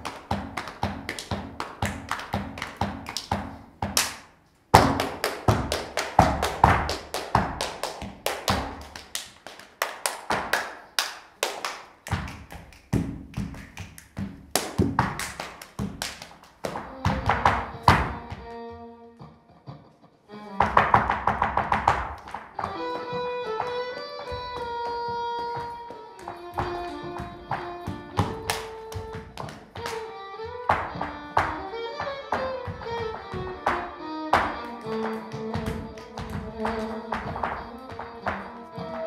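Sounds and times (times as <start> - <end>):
dance shoes striking wooden floor: 0.0 - 9.4, 12.1 - 19.5, 20.5 - 39.0
rhythmic handclaps: 0.0 - 19.4, 20.6 - 39.0.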